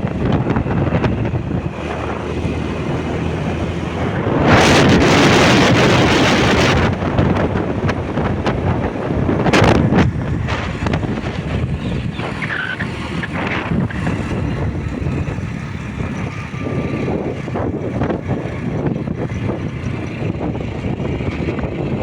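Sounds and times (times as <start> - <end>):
motorbike engine: 0.0 - 22.0
road noise: 0.0 - 22.0
wind rushing over microphone: 0.0 - 22.0.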